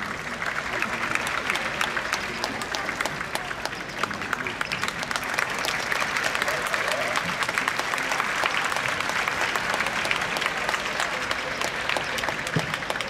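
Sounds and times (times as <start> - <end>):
spectators applauding: 0.0 - 13.0.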